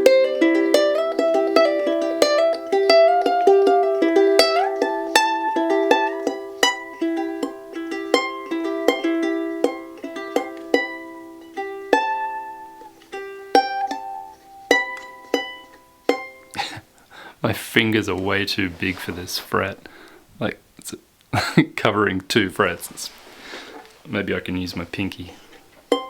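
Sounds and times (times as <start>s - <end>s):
ukulele being picked: 0.0s - 16.8s, 17.4s - 21.0s, 22.3s - 26.0s.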